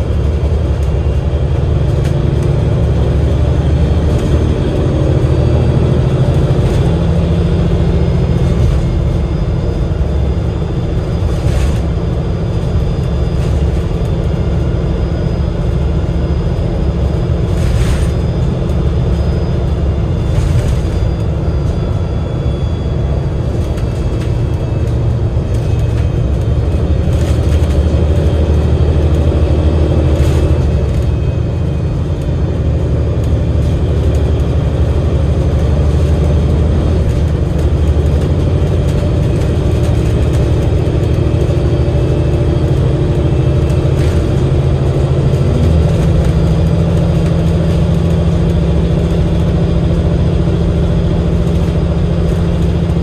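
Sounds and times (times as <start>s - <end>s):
bus engine rumbling: 0.0s - 53.0s
faint steady whines: 0.0s - 53.0s.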